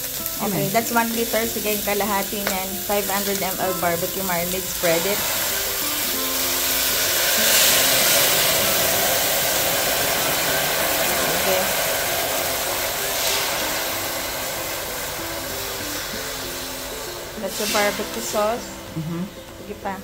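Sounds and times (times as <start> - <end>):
marinade sizzling in a wok: 0.0 - 20.0.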